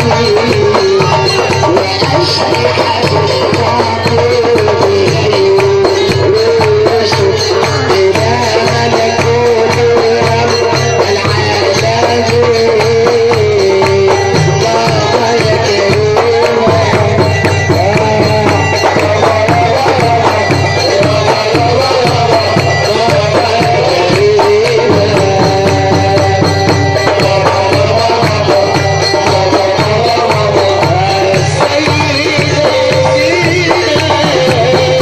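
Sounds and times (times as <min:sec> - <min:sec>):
driving percussion beat: 0:00.0 - 0:35.0.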